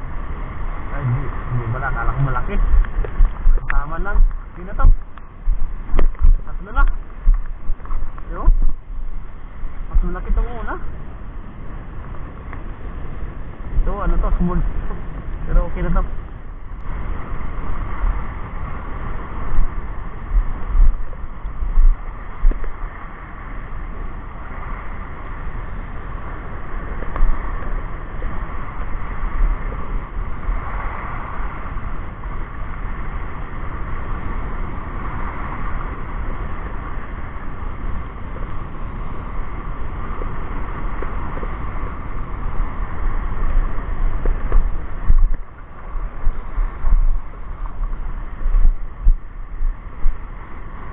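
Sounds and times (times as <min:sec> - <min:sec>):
waves breaking on pebble shore: 0:00.0 - 0:16.2, 0:16.9 - 0:50.9
wind buffeting microphone: 0:00.0 - 0:50.9.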